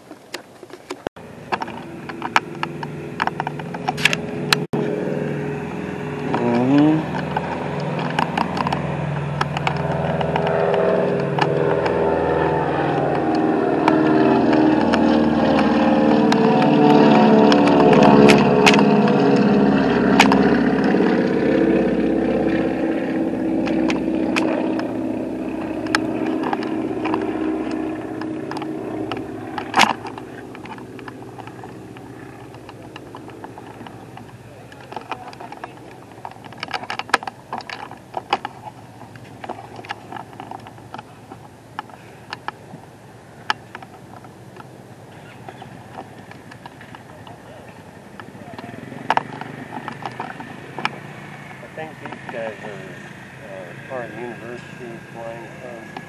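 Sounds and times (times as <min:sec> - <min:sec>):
propeller plane flying overhead: 0:00.0 - 0:56.0.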